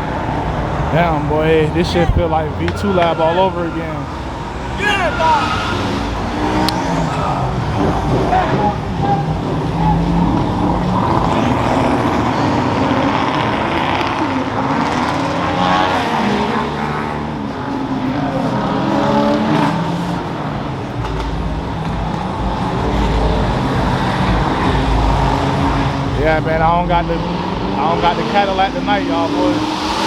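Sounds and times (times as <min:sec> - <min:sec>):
car engines revving: 0:00.0 - 0:30.0
cars passing with deep rumble: 0:00.0 - 0:30.0.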